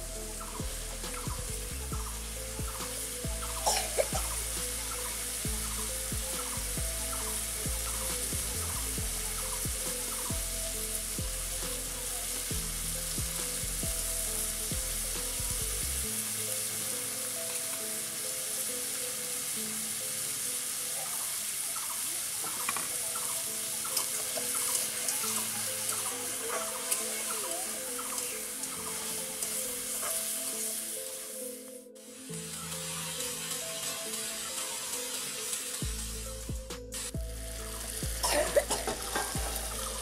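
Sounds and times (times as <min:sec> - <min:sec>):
soft background music: 0:00.0 - 0:40.0
chicken sizzling in hot oil: 0:00.1 - 0:31.4, 0:32.0 - 0:40.0.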